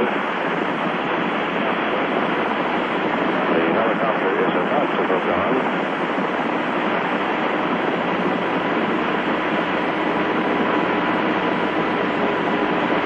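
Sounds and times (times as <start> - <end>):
faint steady tones: 0.0 - 13.0
radio channel hiss: 0.0 - 13.0.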